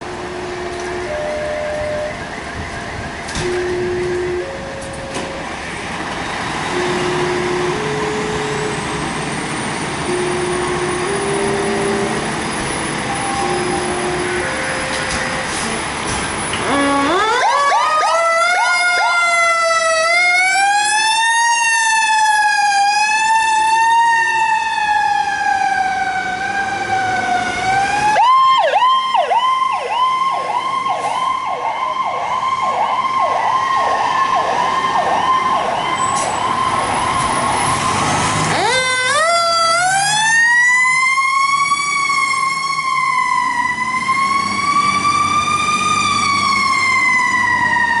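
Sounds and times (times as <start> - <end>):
fire engine siren wail and yelp: 0.0 - 48.0.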